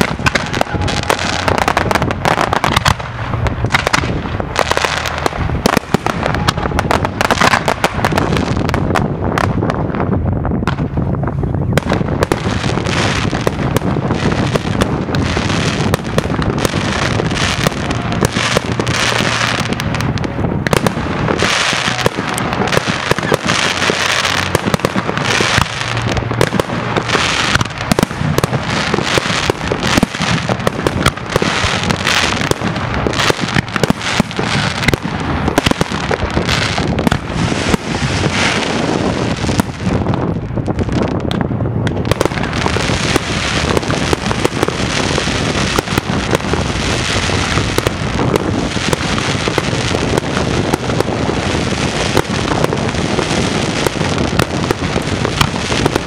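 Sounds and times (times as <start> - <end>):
fireworks bangs: 0.0 - 56.0
fireworks crackling and hiss: 0.0 - 56.0.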